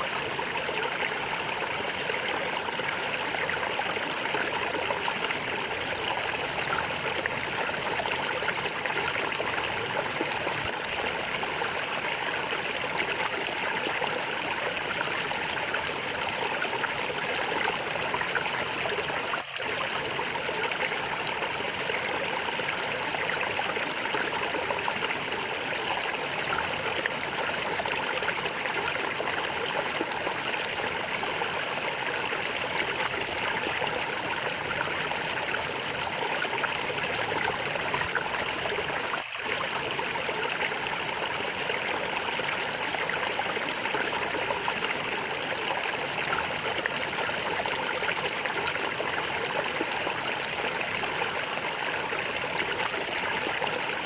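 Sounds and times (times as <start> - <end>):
water gurgling: 0.0 - 54.0.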